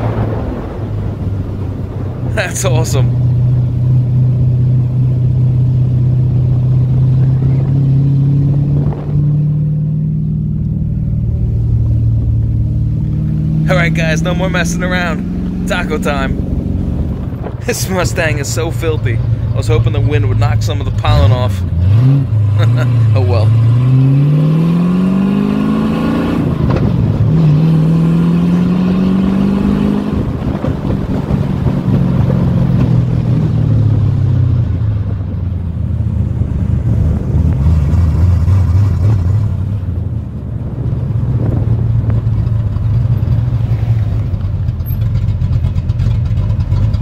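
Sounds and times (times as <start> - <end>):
car engine accelerating: 0.0 - 47.0
road noise: 0.0 - 47.0.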